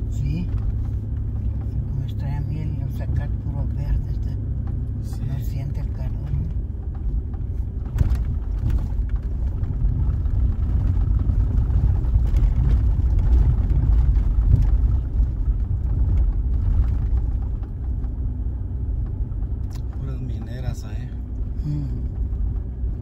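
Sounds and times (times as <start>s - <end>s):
vehicle rumbling on dirt road: 0.0s - 23.0s
light knocks and rattles: 0.3s - 23.0s.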